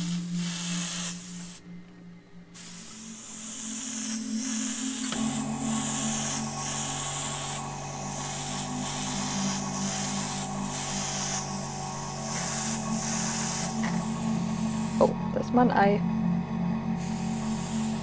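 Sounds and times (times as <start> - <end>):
airbrush spraying hiss: 0.0 - 1.7, 2.6 - 15.2, 17.0 - 18.0
steady low hum: 0.0 - 18.0.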